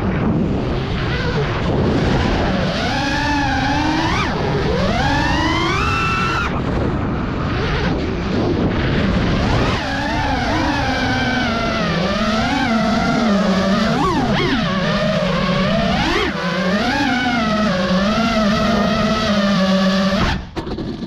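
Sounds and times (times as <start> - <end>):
engine revving: 0.0 - 21.0.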